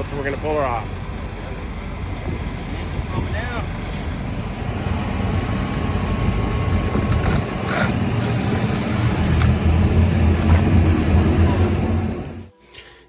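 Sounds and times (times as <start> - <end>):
car engine running: 0.0 - 12.5.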